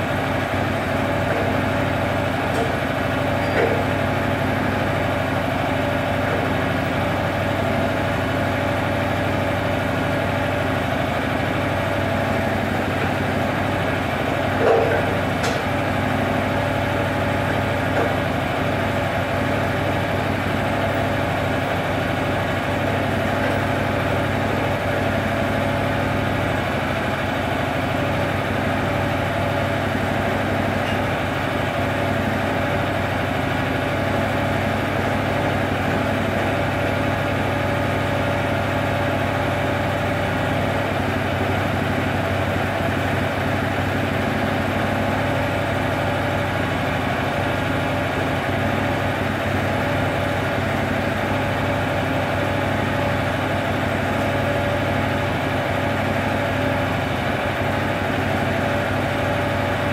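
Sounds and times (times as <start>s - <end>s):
small gasoline engine idling: 0.0s - 59.9s.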